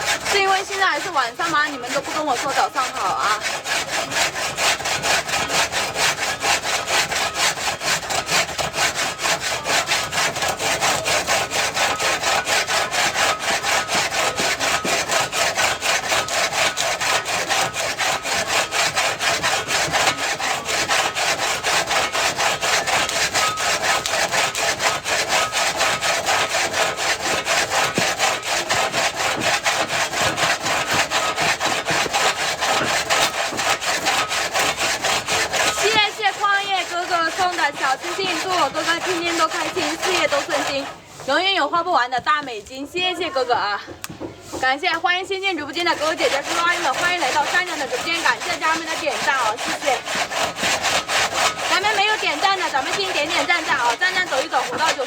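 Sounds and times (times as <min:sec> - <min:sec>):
hand saw cutting wood: 0:00.0 - 0:42.2, 0:44.1 - 0:55.0.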